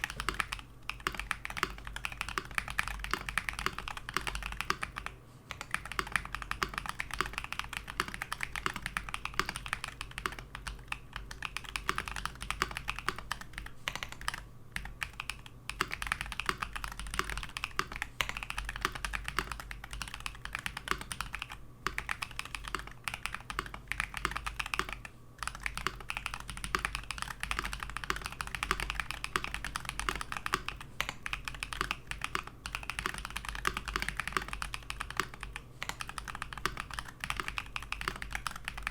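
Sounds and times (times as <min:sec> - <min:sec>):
typing on a mechanical keyboard: 0:00.0 - 0:38.9.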